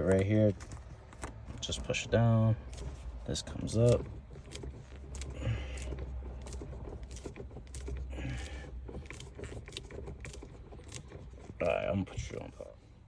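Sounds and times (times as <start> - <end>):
plastic trim clicking and rattling: 0.0 - 12.4.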